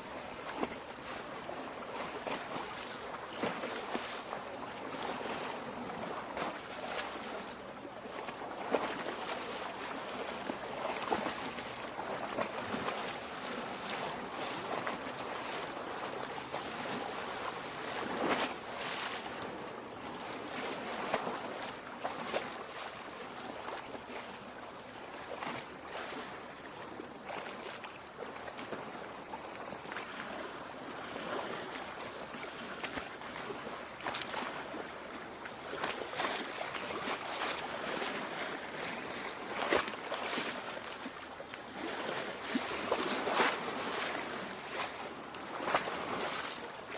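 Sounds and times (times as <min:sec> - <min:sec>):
small waves lapping on shore: 0:00.0 - 0:46.9.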